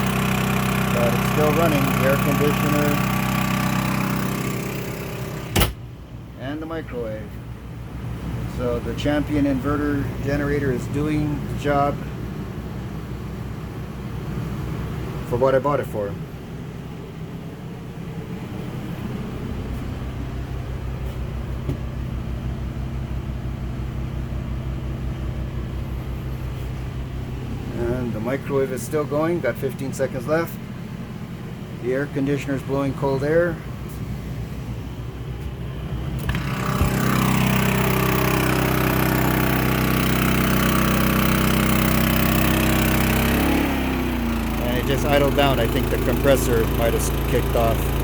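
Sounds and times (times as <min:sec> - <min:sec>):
generator running under load: 0:00.0 - 0:48.0.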